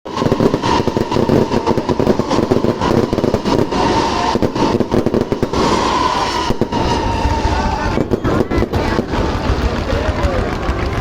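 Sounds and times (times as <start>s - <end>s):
fireworks bangs and crackles: 0.1s - 11.0s.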